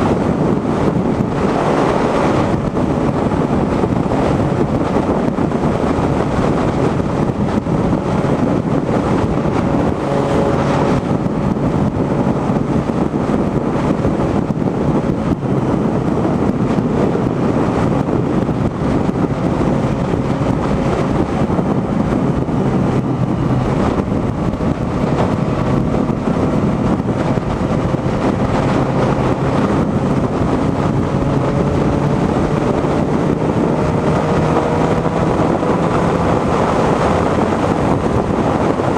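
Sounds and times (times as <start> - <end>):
motorcycle engine roaring: 0.0 - 38.9
wind rushing over microphone: 0.0 - 38.9.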